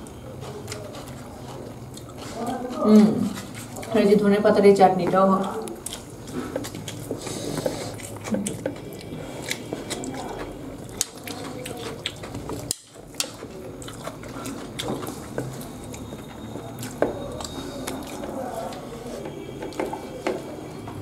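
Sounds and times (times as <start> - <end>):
chewing: 0.0 - 4.4, 5.0 - 21.0
fingers rustling on paper plates: 0.0 - 21.0.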